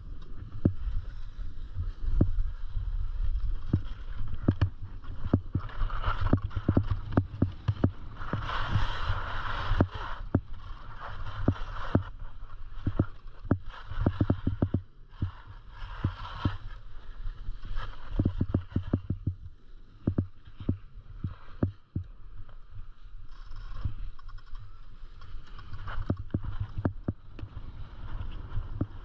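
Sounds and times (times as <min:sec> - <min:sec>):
low rumble of wind: 0:00.0 - 0:29.0
skis scraping over packed snow: 0:00.3 - 0:29.0.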